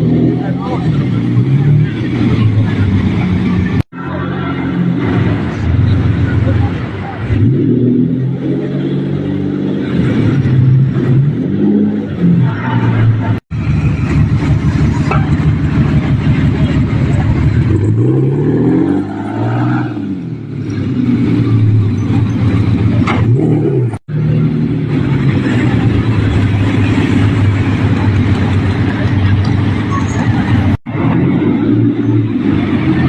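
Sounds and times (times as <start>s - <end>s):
car revving and passing: 0.0s - 33.0s
traffic engine hum: 0.0s - 33.0s.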